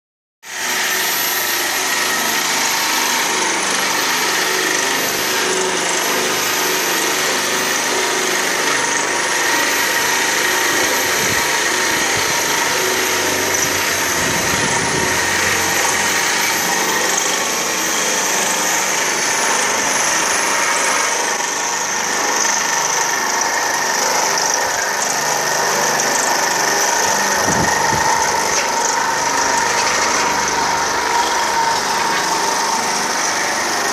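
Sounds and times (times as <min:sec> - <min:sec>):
drilling rig motor droning: 0:00.5 - 0:33.9.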